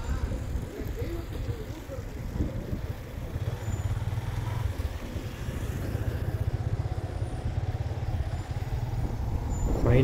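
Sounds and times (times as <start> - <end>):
motorbike engine rumble: 0.0 - 10.0.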